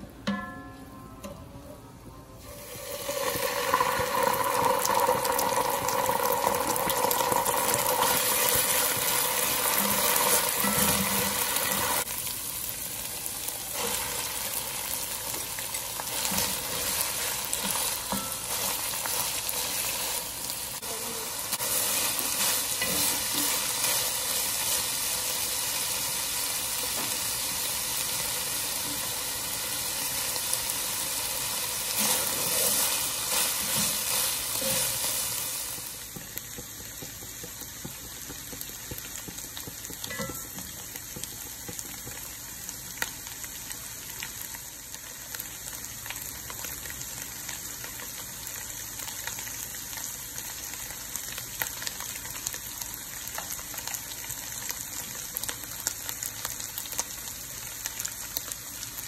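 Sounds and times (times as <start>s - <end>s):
food sizzling in oil: 2.4s - 59.0s.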